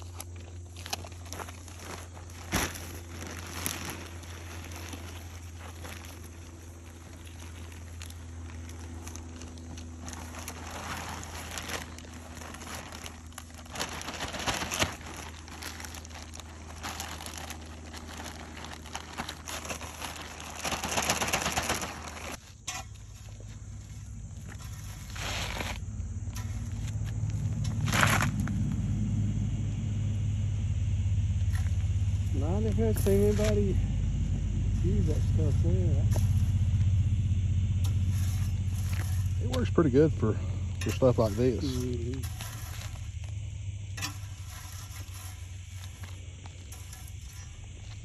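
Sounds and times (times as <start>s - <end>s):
asphalt scraping and crunching: 0.0s - 48.0s
steady low hum: 0.0s - 48.0s.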